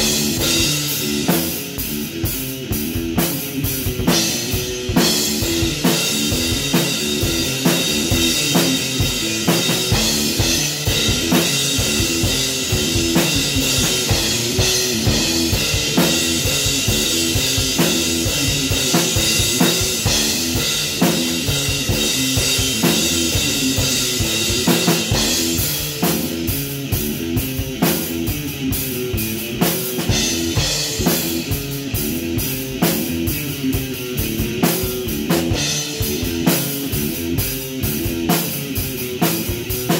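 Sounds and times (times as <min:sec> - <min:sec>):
drum kit beat: 0:00.0 - 0:39.9
electric guitar riff: 0:00.0 - 0:39.9.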